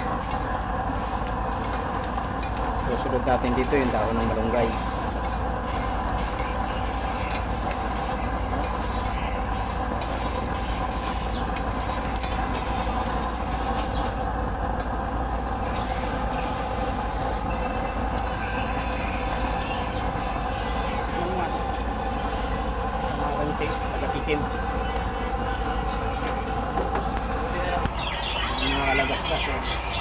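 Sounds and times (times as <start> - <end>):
mechanical drone with pitched tones: 0.0 - 30.0.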